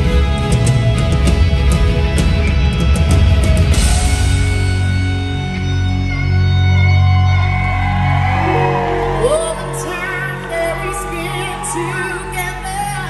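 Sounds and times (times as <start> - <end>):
live band music: 0.0 - 13.0
sustained bass: 0.0 - 13.0.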